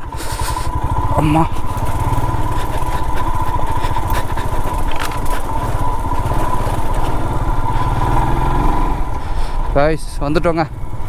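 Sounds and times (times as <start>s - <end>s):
motorcycle engine thumping: 0.0s - 11.0s.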